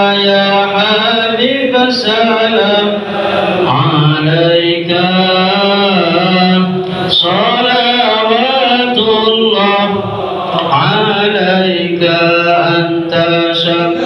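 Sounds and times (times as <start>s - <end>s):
men chanting devotional song: 0.0s - 14.0s.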